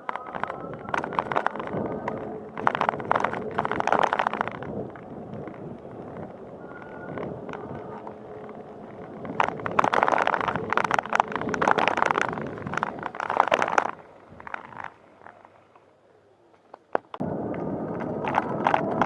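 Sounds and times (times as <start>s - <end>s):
dense crackling and rattling: 0.0s - 15.8s, 16.6s - 19.0s
bicycle rolling: 0.0s - 15.9s, 16.6s - 19.0s.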